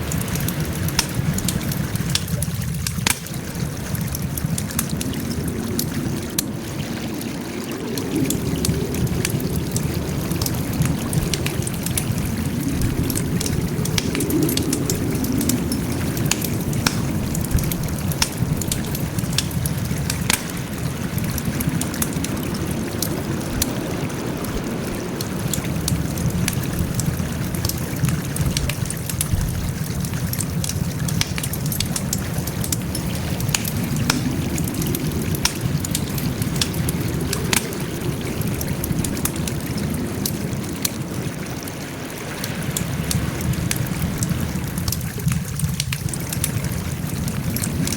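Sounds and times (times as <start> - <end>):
campfire crackling and popping: 0.0 - 47.9
low rumble of burning: 0.0 - 47.9.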